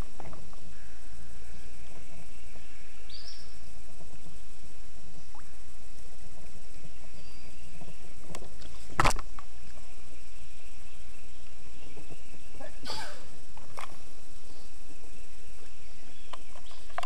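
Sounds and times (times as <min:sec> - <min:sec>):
steady low water noise: 0:00.0 - 0:17.0.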